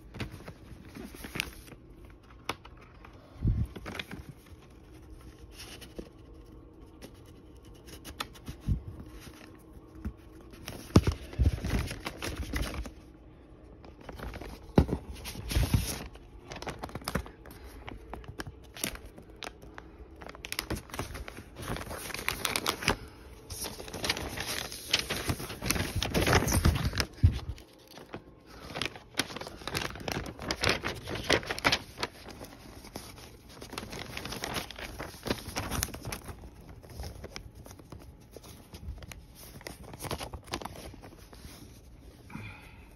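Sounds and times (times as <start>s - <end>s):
paper and cardboard rustling: 0.0s - 13.1s, 13.7s - 42.2s.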